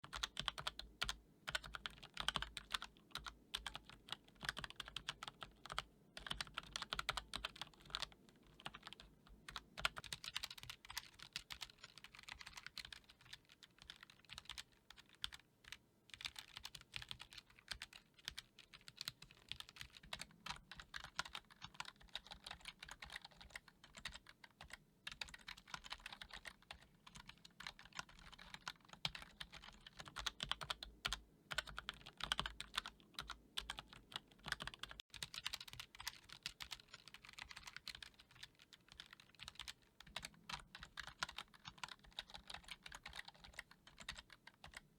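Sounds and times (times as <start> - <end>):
typing on computer keyboard: 0.0 - 44.9.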